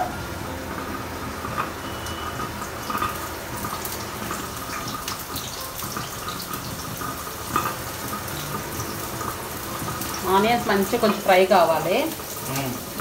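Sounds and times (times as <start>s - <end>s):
oil and seeds sizzling in a pan: 0.0s - 13.0s.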